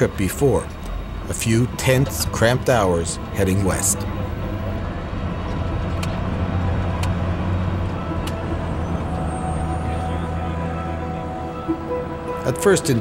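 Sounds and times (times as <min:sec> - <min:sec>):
military vehicle engine hum: 0:00.0 - 0:13.0.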